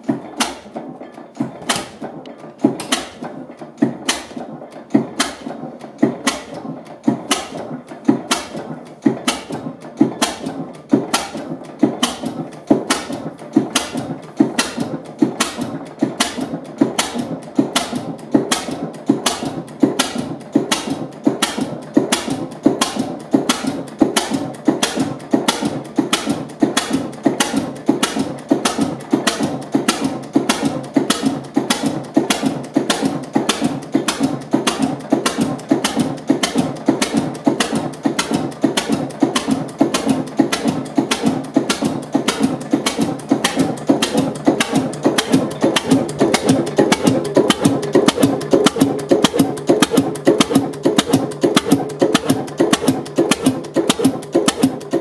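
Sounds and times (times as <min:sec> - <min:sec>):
stationary engine running: 0:00.0 - 0:55.0.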